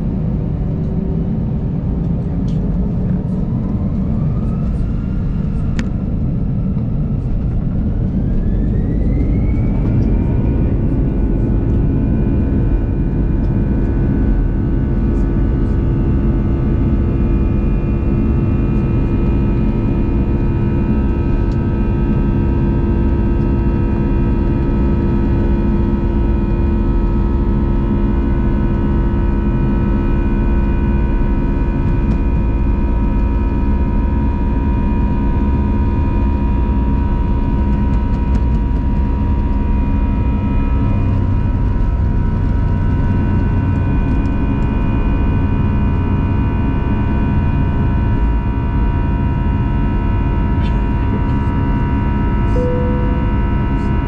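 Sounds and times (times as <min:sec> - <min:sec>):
jet engine whine: 0:00.0 - 0:54.0
takeoff rumble in cabin: 0:00.0 - 0:54.0.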